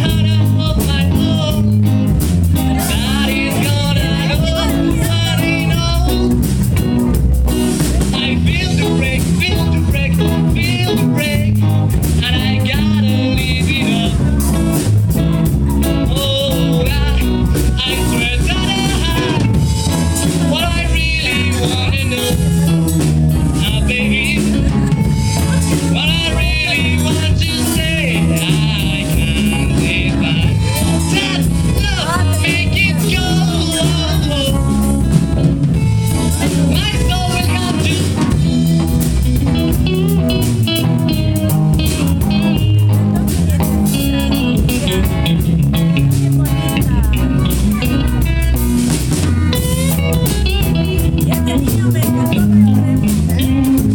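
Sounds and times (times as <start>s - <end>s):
rock band with singer: 0.0s - 53.9s.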